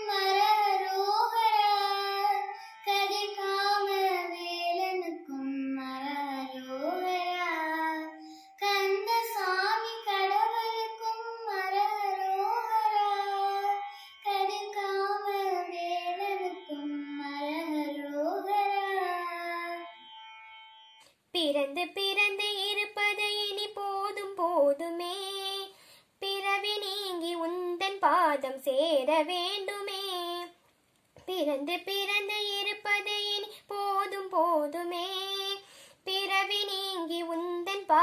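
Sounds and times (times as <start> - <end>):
girl singing unaccompanied: 0.0 - 20.2, 21.3 - 30.6, 31.2 - 38.0.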